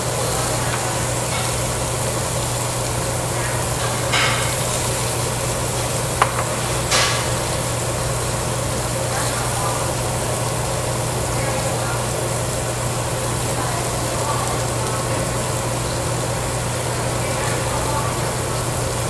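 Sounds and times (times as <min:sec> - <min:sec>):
exhaust hood humming: 0:00.0 - 0:19.0
meat sizzling on a grill: 0:00.0 - 0:19.0.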